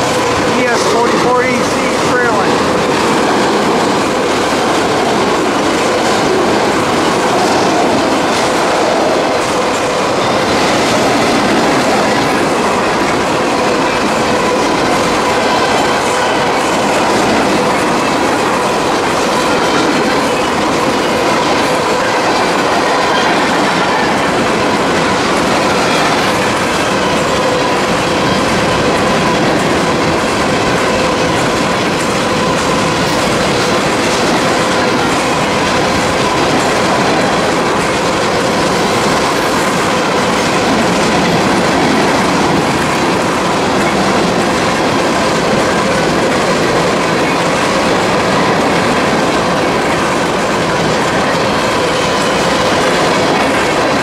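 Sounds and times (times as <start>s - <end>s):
freight train rumble: 0.0s - 54.0s
train wheels clacking over rail joints: 0.0s - 54.0s.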